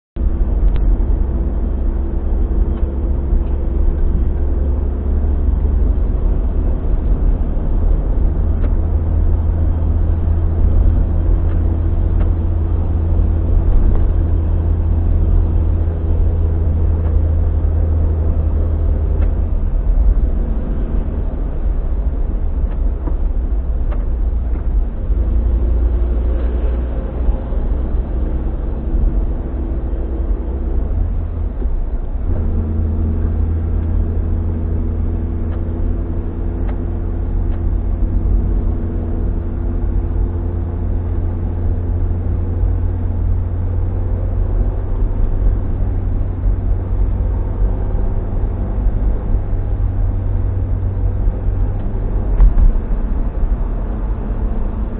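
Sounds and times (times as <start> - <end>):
car engine and road rumble: 0.2 - 54.9
faint engine hum: 0.2 - 54.9.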